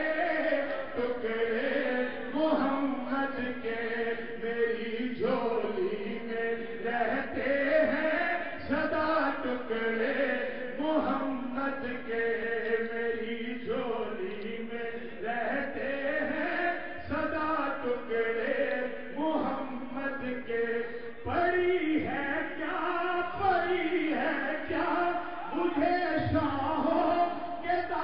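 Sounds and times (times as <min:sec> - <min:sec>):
man chanting into a microphone: 0:00.0 - 0:28.0.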